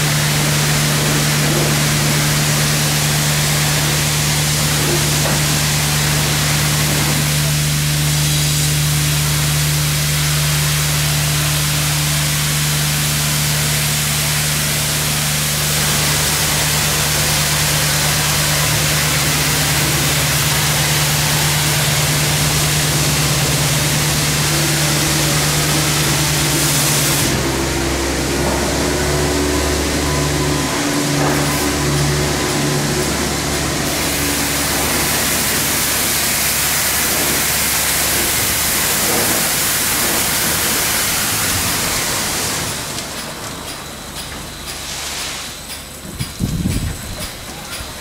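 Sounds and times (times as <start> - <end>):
water spray hissing: 0.0 - 28.3, 30.7 - 42.9
machine pump humming: 0.0 - 48.0.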